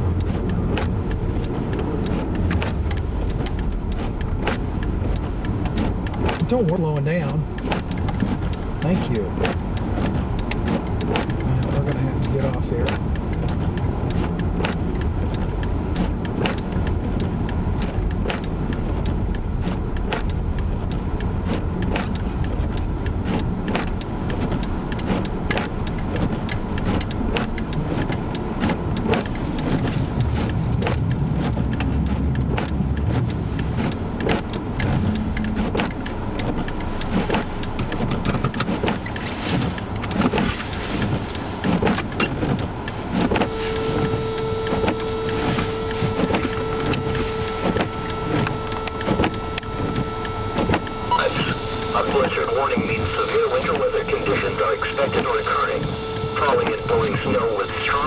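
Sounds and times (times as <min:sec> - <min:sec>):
sharp ticks and knocks: 0:00.0 - 0:51.0
car driving on snow: 0:00.0 - 0:58.0.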